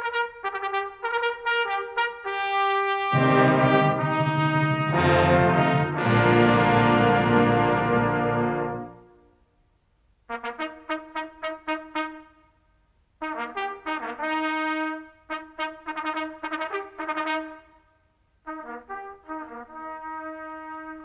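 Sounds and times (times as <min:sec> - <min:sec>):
trumpet-like brass melody: 0:00.0 - 0:09.3, 0:10.3 - 0:12.5, 0:13.2 - 0:21.0.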